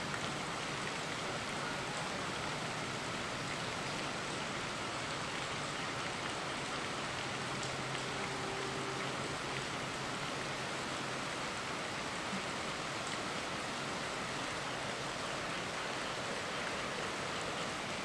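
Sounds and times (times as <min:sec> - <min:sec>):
river flowing: 0:00.0 - 0:18.0
steady rain: 0:00.0 - 0:18.0.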